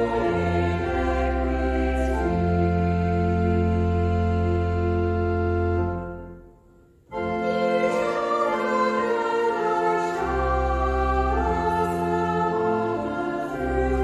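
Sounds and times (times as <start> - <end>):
choir singing a hymn: 0.0 - 6.0, 7.1 - 14.0
church pipe organ: 0.0 - 14.0.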